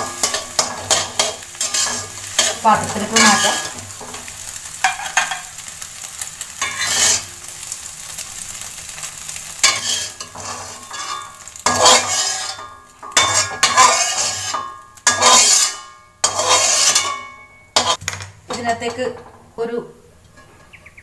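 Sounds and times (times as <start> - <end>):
spatula scraping metal wok: 0.0 - 18.0
light sizzle: 0.0 - 21.0.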